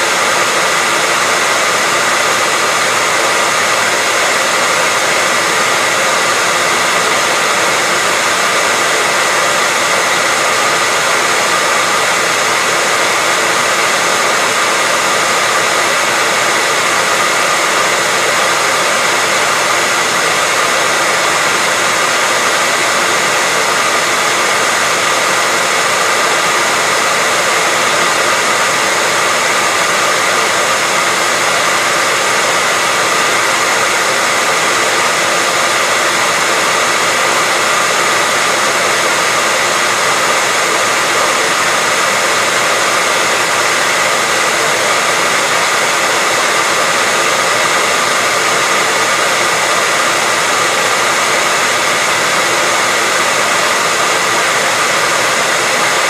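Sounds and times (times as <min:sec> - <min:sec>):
hair dryer blowing: 0:00.0 - 0:56.0.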